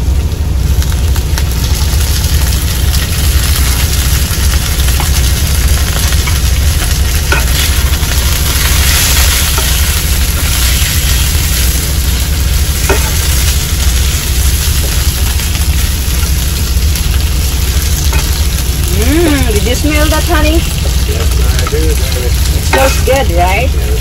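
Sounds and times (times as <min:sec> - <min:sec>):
chicken sizzling in skillet: 0:00.0 - 0:24.0
low hum: 0:00.0 - 0:24.0.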